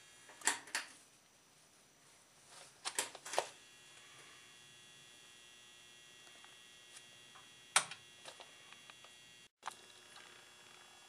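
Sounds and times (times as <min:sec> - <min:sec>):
electrical hum with high whine: 0:00.0 - 0:11.0.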